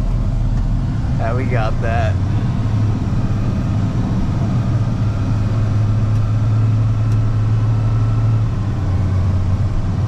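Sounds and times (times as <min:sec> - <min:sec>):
truck engine drone: 0:00.0 - 0:10.0.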